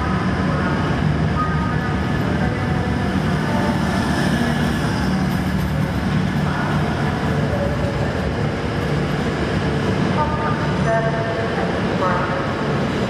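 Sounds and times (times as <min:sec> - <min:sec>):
diesel engine drone: 0:00.0 - 0:13.0
train wheels rumbling on rails: 0:00.0 - 0:13.0.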